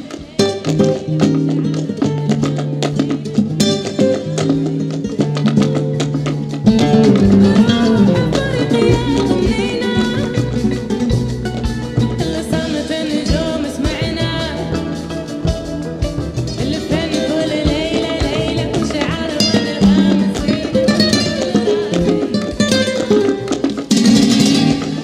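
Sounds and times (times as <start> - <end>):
percussion beat: 0.0 - 25.0
plucked guitar: 0.0 - 25.0.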